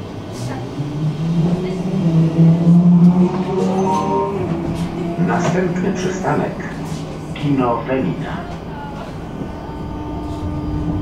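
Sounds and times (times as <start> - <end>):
tram running gear hum: 0.0 - 11.0.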